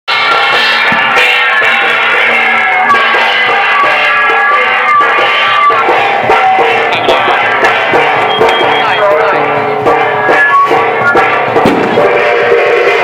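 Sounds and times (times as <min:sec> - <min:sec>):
music with drums and melody: 0:00.1 - 0:13.0.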